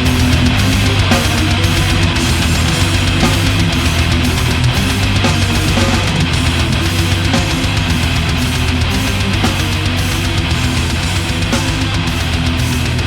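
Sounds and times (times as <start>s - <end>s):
instrumental heavy metal music: 0.0s - 13.0s.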